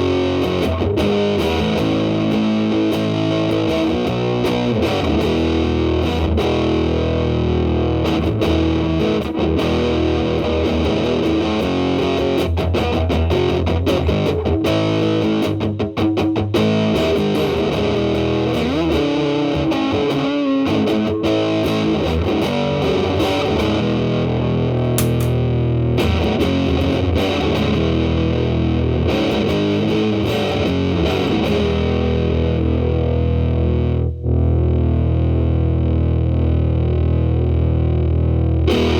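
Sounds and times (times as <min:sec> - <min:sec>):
distorted electric guitar notes: 0:00.0 - 0:38.9.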